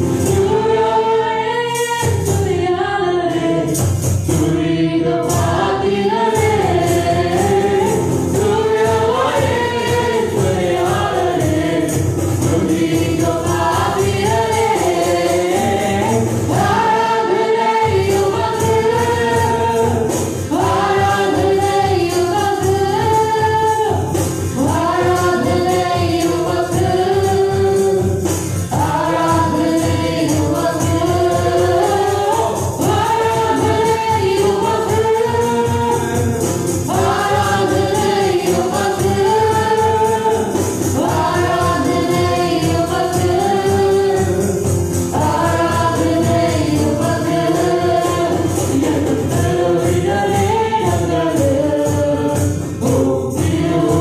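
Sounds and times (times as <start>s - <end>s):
acoustic guitar: 0.0s - 54.0s
backing voices singing: 0.0s - 54.0s
percussion beat: 0.0s - 54.0s
woman singing: 0.2s - 11.8s, 12.4s - 54.0s.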